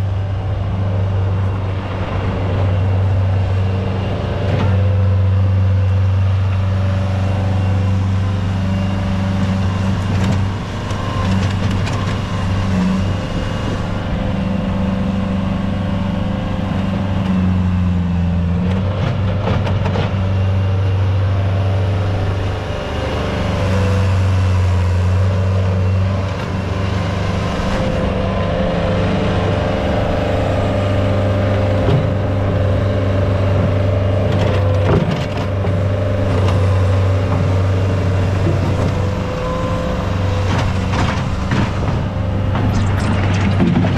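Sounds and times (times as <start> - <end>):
diesel truck engine droning: 0.0 - 43.9.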